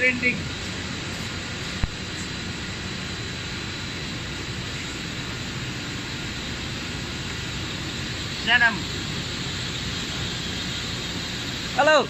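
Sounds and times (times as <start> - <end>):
faint high whine: 0.0 - 12.0
machine drone of motors and fans: 0.0 - 12.0.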